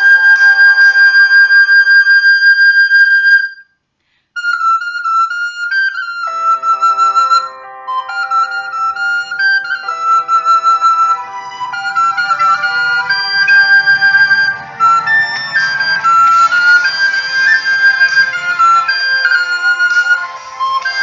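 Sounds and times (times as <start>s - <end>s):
low sustained accompanying notes: 0.0s - 2.3s, 5.9s - 21.0s
recorder playing a melody: 0.0s - 3.6s, 4.4s - 21.0s.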